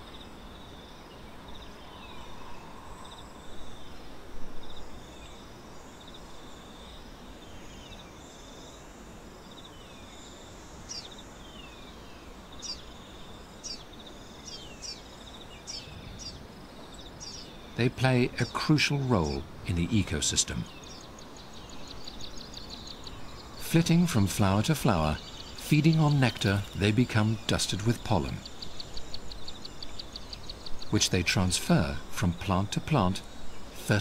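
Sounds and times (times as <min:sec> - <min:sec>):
high insect trill: 0:00.0 - 0:34.0
small birds chirping: 0:00.0 - 0:34.0.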